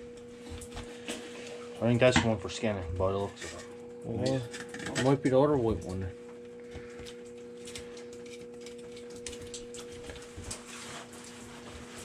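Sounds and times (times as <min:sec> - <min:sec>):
steady hum of pure tones: 0:00.0 - 0:12.0.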